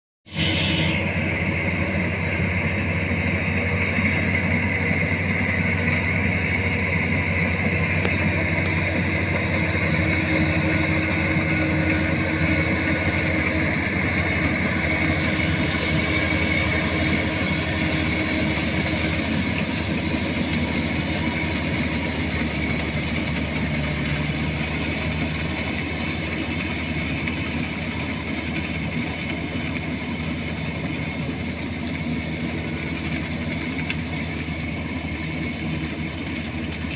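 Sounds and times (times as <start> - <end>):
diesel engine drone: 0.3 - 36.9
high whine: 0.3 - 36.9.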